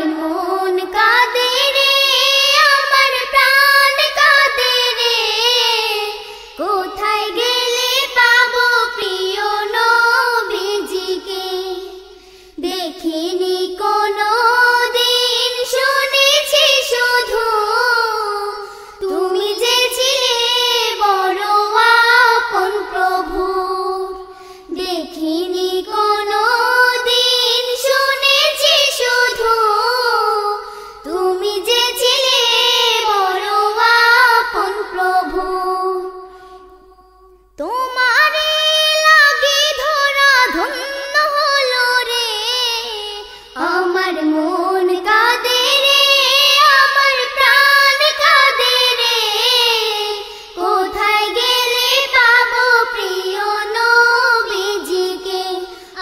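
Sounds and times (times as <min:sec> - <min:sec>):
girl singing into a microphone: 0:00.0 - 0:56.0.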